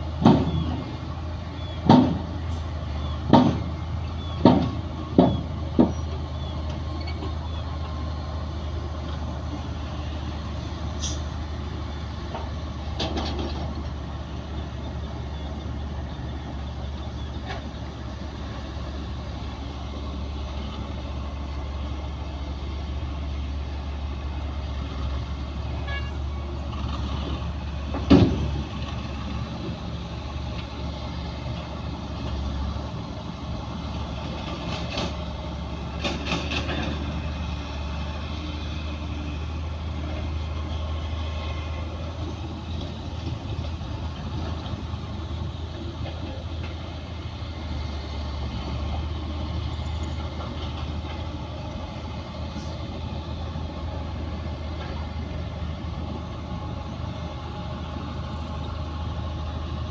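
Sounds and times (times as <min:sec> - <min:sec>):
bulldozer engine rumbling: 0:00.0 - 0:59.9.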